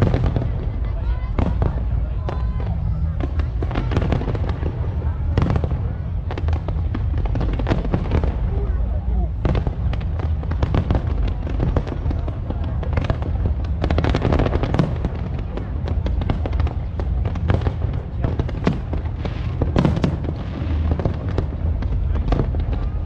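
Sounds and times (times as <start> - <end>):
continuous low rumble: 0.0 - 23.0
firework bangs and crackles: 0.0 - 23.0.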